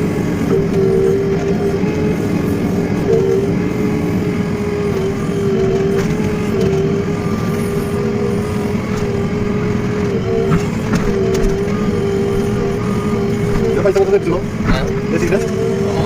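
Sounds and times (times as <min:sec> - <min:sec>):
diesel engine running: 0:00.0 - 0:16.0
engine whine: 0:00.0 - 0:16.0.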